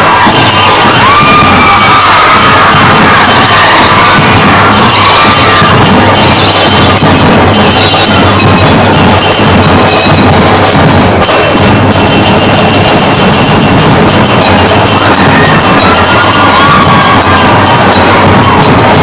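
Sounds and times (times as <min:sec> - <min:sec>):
percussion dance music: 0:00.0 - 0:19.0.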